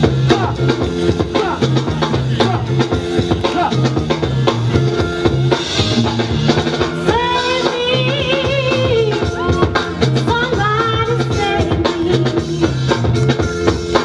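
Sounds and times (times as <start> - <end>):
dance music: 0.0 - 14.0.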